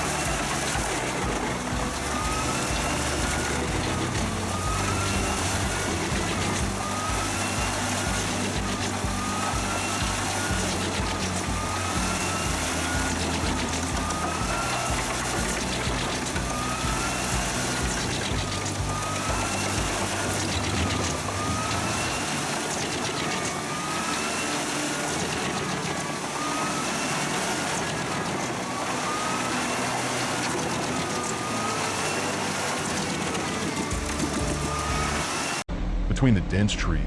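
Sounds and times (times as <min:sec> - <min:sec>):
heavy machinery whooping tone: 0:00.0 - 0:37.0.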